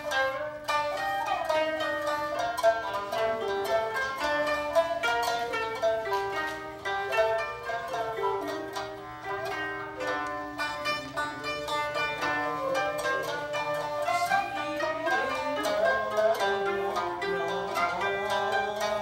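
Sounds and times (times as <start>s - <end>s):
held shakuhachi tones: 0.0s - 19.0s
plucked koto and shamisen notes: 0.0s - 19.0s.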